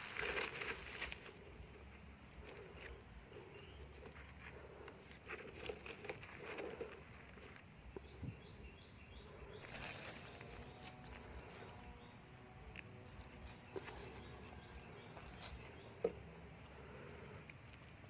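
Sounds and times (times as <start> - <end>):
birds calling: 0.0 - 18.0
rustle: 0.0 - 18.0.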